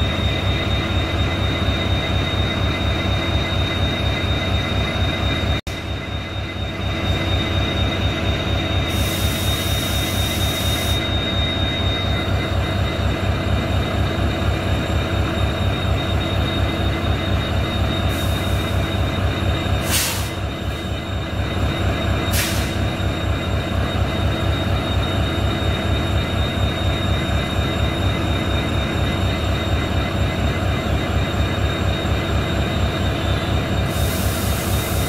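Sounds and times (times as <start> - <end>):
locomotive engine throb: 0.0 - 35.0.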